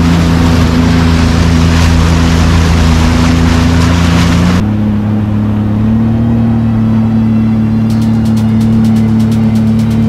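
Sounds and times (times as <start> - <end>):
jet ski engine running: 0.0 - 10.0.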